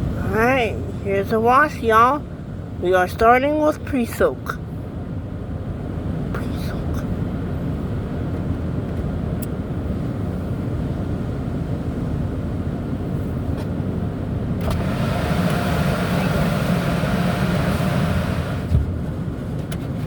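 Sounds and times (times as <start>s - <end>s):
car wash rumble: 0.0s - 20.0s.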